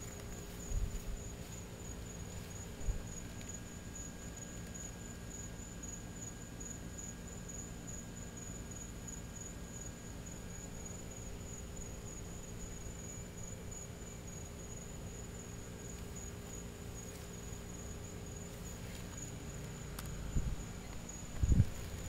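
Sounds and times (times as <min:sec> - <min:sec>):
cricket trilling: 0:00.0 - 0:22.0
faint low hum: 0:00.0 - 0:22.0.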